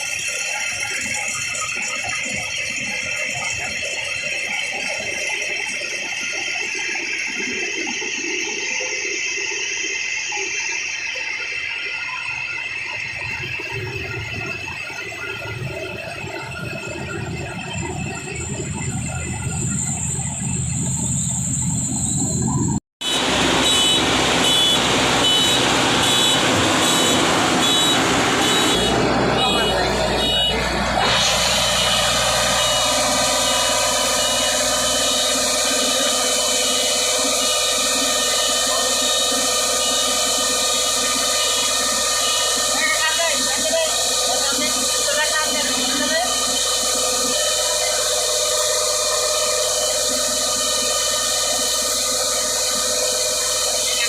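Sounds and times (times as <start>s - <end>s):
high electronic beeping: 0.0s - 54.0s
loud engine running: 0.0s - 54.0s.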